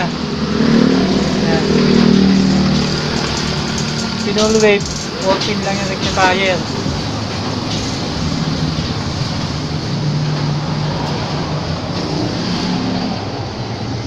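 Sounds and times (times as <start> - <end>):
noisy hiss: 0.0 - 11.9
vehicle engine running: 0.0 - 14.0.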